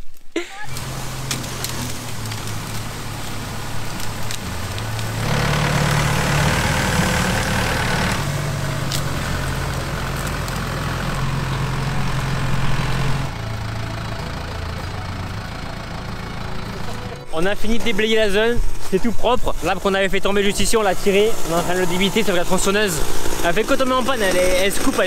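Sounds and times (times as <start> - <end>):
tractor engine running: 0.6 - 25.0.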